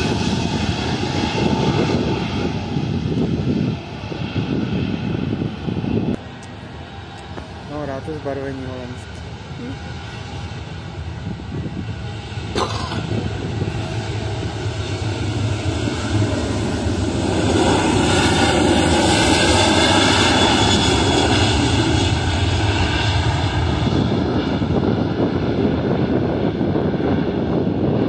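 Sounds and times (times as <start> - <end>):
airliner engines rumbling: 0.0 - 28.0.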